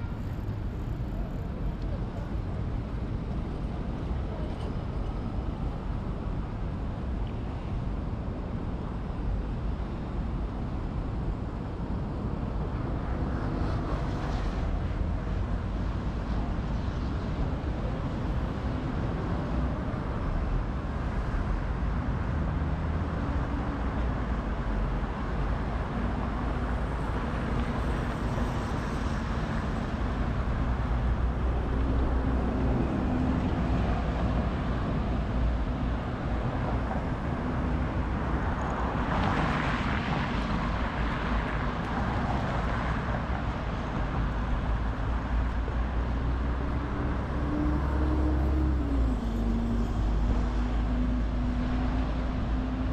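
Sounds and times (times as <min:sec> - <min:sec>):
cars and buses passing: 0:00.0 - 0:52.9.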